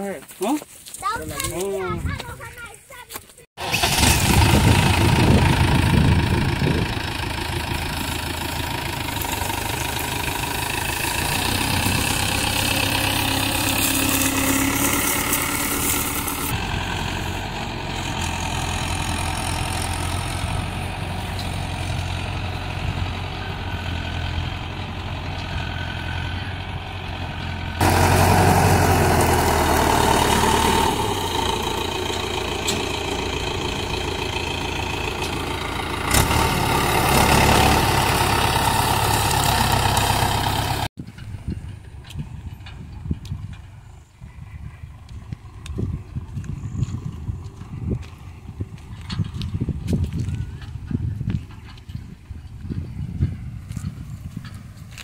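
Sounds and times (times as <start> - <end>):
tractor diesel engine running: 3.6 - 55.0.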